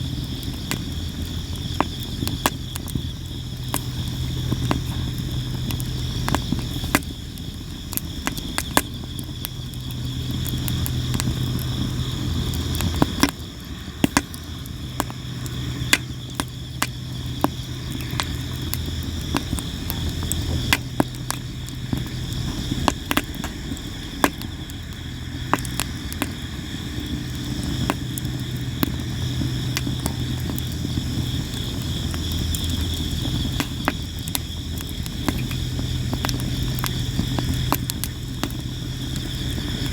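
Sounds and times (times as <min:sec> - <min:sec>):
campfire crackling and popping: 0:00.0 - 0:39.9
crickets chirping: 0:00.0 - 0:39.9
low wavering rumble: 0:00.0 - 0:39.9.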